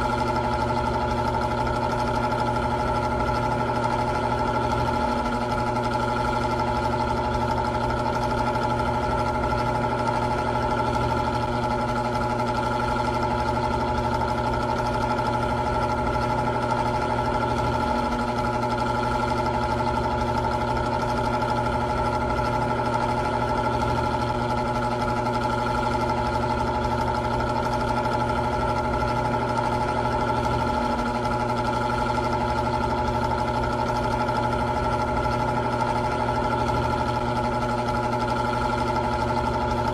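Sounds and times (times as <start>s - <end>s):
electric fan motor humming: 0.0s - 39.9s.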